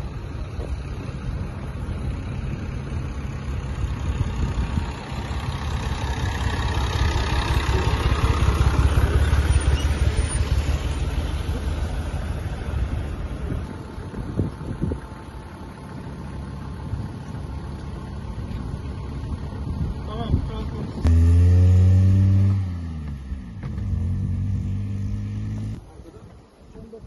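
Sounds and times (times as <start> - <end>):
tractor engine passing: 0.0 - 26.0.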